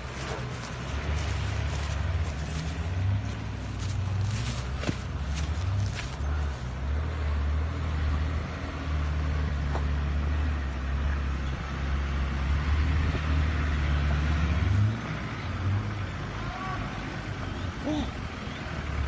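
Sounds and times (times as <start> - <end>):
engine running at low revs: 0.0 - 19.0.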